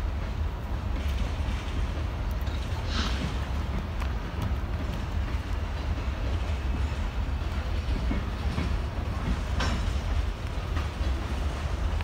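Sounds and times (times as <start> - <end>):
freight train rumble: 0.0 - 12.0
train wheel clacks: 0.0 - 12.0.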